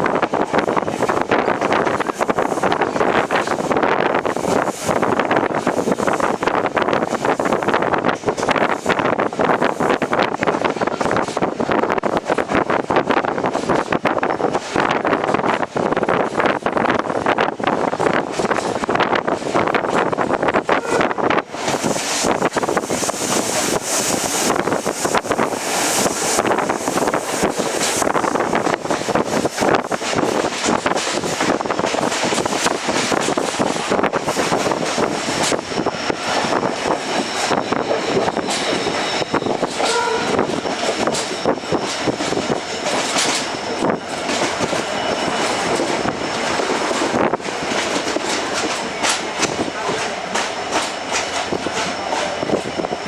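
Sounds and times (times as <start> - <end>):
train carriage clatter on track: 0.0 - 53.0
wind rushing over microphone: 0.0 - 53.0.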